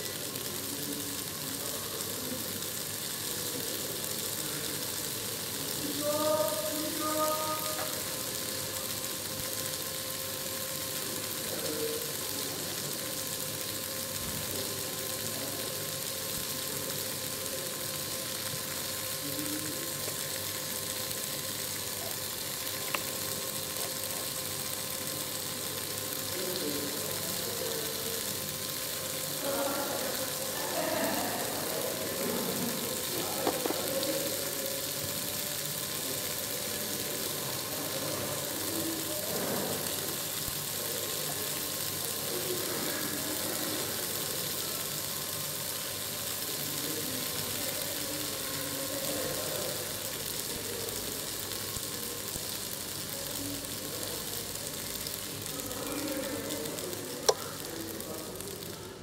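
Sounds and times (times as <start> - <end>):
small electric motor hum: 0.0 - 59.0
steady hiss: 0.0 - 59.0.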